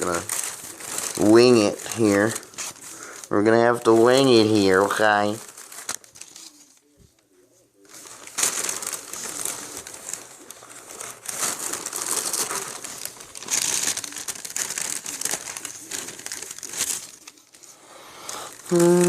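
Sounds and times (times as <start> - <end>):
plastic sleeves crinkling: 0.0 - 19.0.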